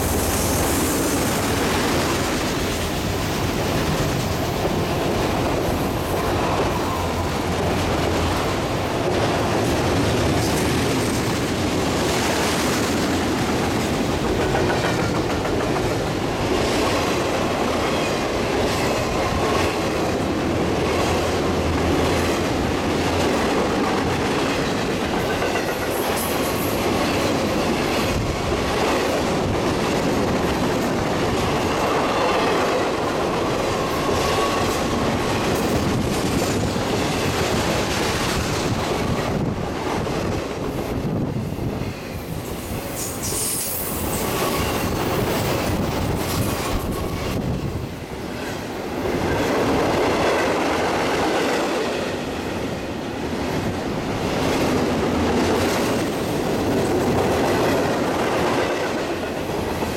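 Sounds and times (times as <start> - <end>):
steel wheels rumbling on rail: 0.0 - 59.9
clickety-clack over rail joints: 1.0 - 59.9.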